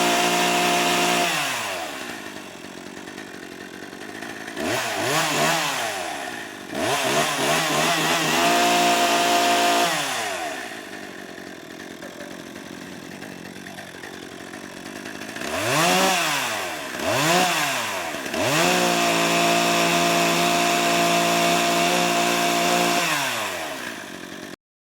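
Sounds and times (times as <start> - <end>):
chainsaw engine revving: 0.0 - 24.6.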